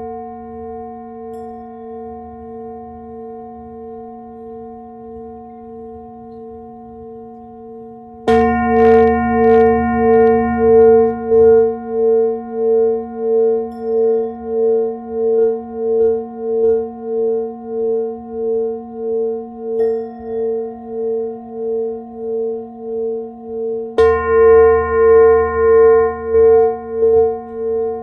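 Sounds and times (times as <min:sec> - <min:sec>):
singing bowl ringing: 0:00.0 - 0:28.0.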